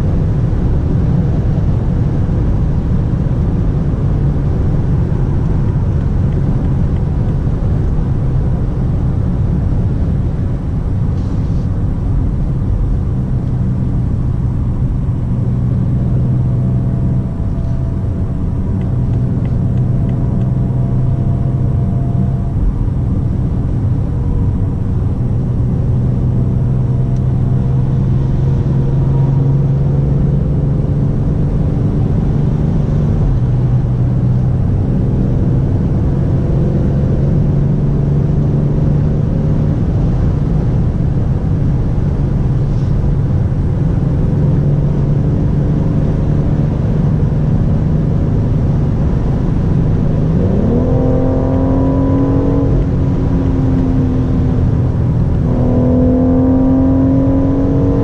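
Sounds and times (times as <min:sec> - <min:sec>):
car engine running at speed: 0:00.0 - 0:58.0
low road rumble: 0:00.0 - 0:58.0.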